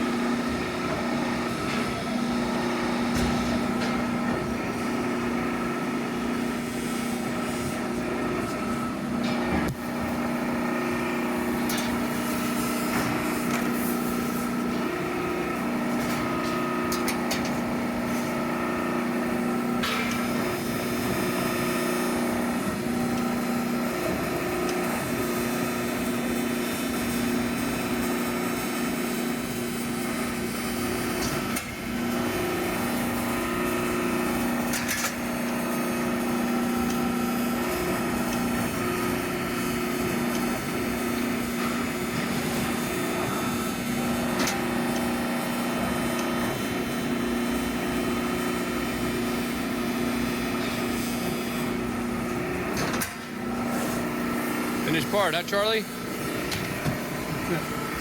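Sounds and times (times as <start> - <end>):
shop machinery humming: 0.0 - 58.0.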